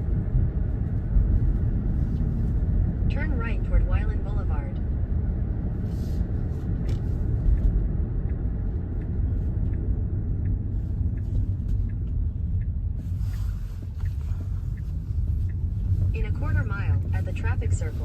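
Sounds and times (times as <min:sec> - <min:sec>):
tyre and road noise in car: 0:00.0 - 0:18.0.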